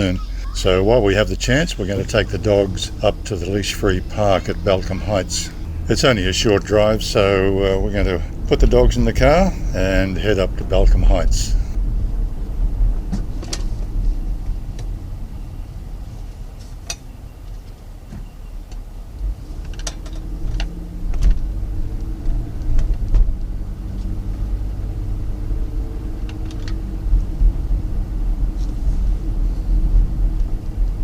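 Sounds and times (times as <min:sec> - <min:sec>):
car engine and road noise rumble: 0:00.0 - 0:31.0.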